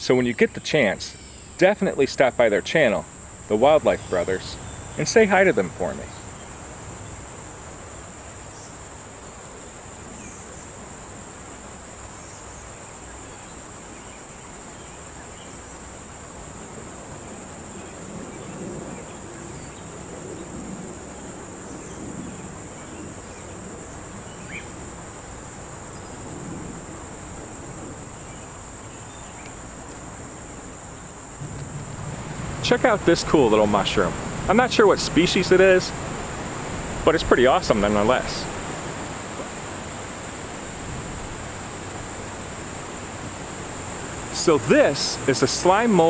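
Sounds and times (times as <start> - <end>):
insects singing: 0.0 - 46.0.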